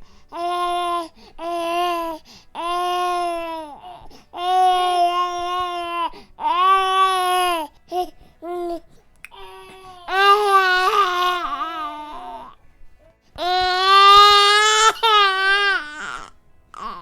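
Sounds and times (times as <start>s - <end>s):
infant breaths: 0.0s - 13.8s
infant crying: 0.3s - 12.6s, 13.4s - 17.0s.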